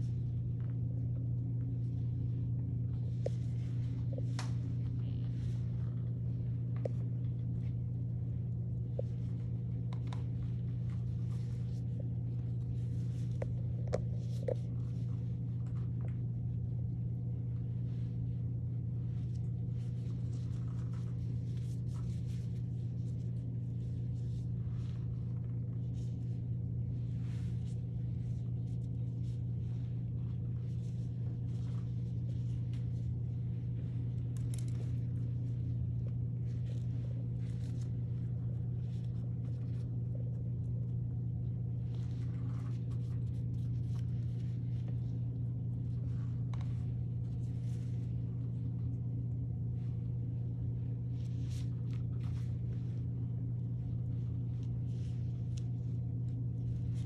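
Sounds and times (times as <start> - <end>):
gloved hands rustling in hair: 0.0 - 57.0
low room hum: 0.0 - 57.0.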